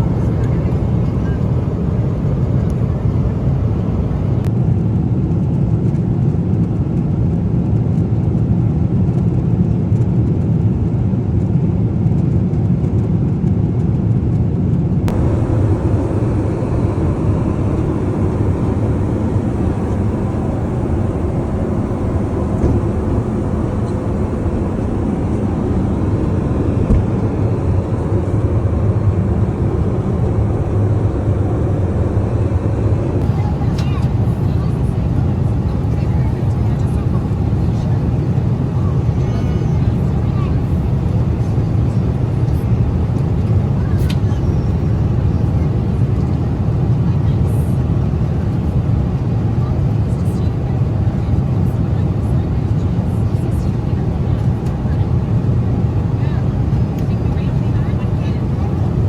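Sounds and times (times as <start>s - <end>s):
jet engine noise in cabin: 0.0s - 59.0s.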